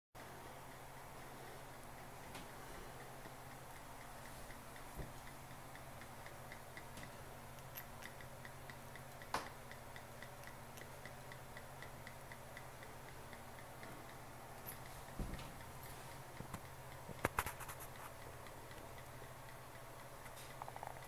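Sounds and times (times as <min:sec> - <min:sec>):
fermentation airlock ticking: 0:00.2 - 0:21.0
low steady hum: 0:00.2 - 0:21.0.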